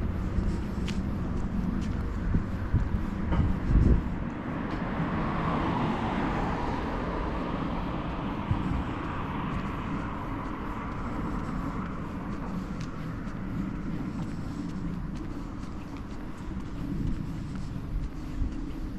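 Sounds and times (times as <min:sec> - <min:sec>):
low outdoor rumble: 0:00.0 - 0:18.9
vehicle passing: 0:00.0 - 0:18.9.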